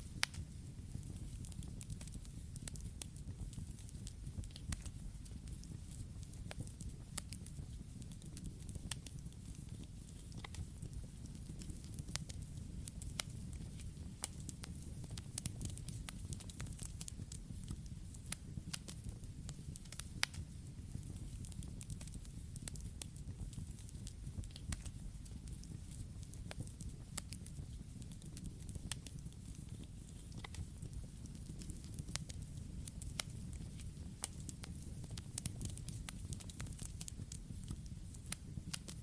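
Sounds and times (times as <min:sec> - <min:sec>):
burning wood crackling and popping: 0:00.0 - 0:39.0.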